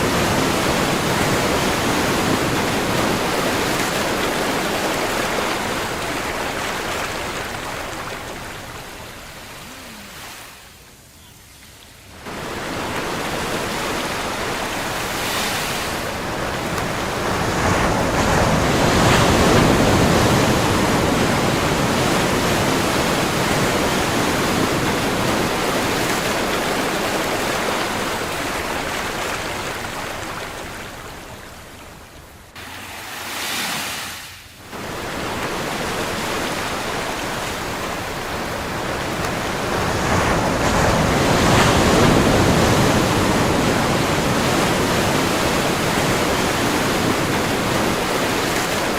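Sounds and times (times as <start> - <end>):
ocean waves washing: 0.0 - 48.9.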